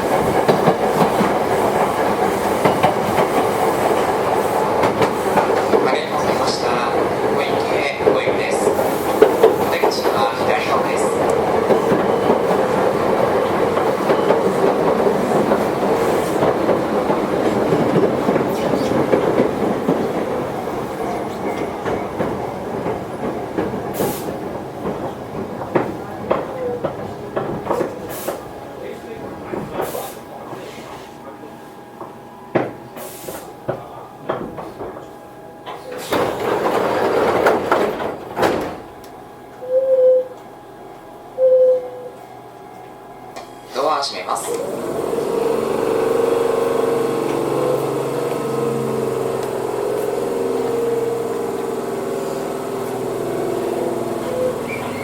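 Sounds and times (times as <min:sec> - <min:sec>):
wheels clicking over rail joints: 0:00.0 - 0:28.5, 0:33.7 - 0:39.2, 0:44.4 - 0:55.0
train wheel and motor noise: 0:00.0 - 0:55.0.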